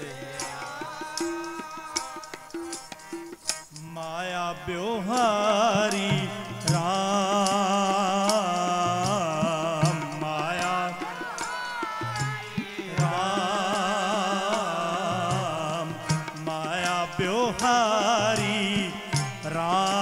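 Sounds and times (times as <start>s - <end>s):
harmonium: 0.0s - 20.0s
person singing long held notes: 3.8s - 20.0s.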